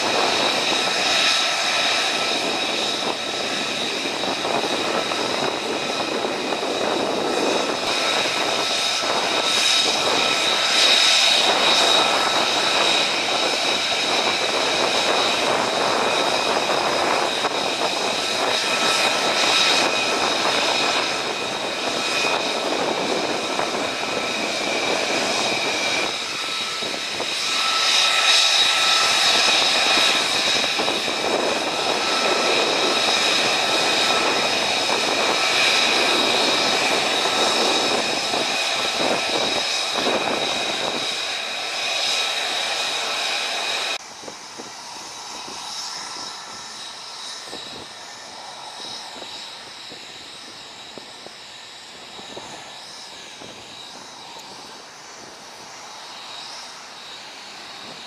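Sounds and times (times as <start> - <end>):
high-pitched turbine whine: 0.0 - 58.0
jet engines rumbling: 0.0 - 58.0.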